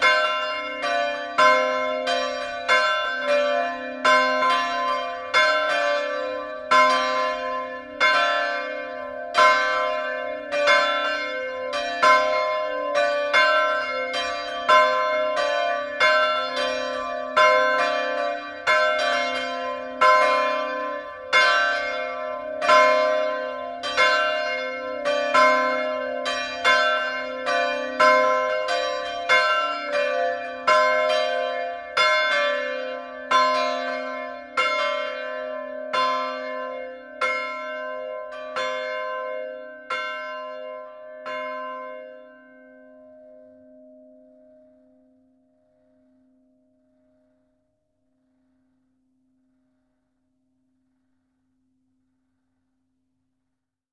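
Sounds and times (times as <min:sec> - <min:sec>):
church bells ringing in a peal: 0:00.0 - 0:47.3.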